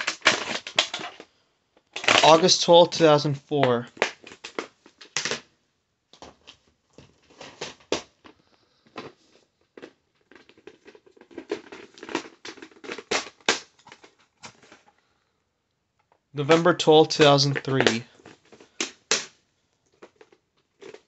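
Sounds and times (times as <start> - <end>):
plastic cases clicking and clattering: 0.0 - 2.5, 3.7 - 5.5, 6.1 - 15.0, 16.0 - 21.0.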